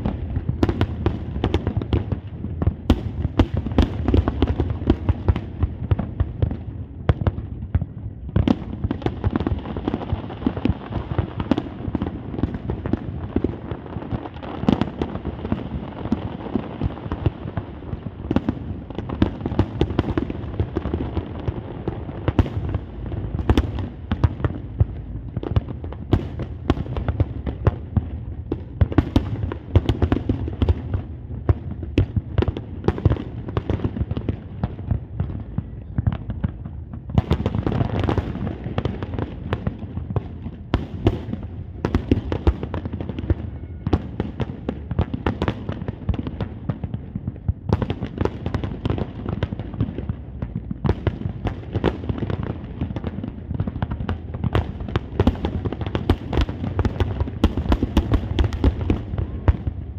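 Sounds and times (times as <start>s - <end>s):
fireworks bangs and cracks: 0.0s - 59.9s.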